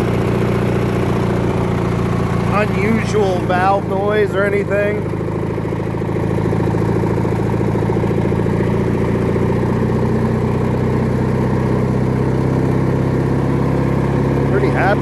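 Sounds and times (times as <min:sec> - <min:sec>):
riding mower engine running: 0:00.0 - 0:15.0.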